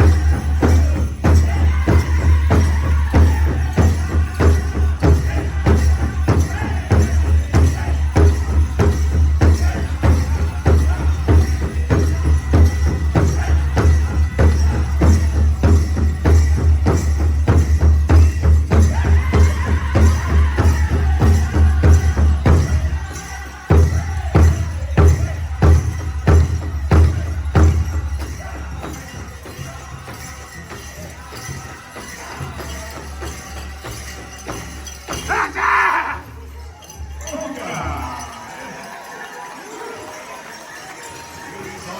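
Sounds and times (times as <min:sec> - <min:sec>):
people singing: 0:00.0 - 0:41.9.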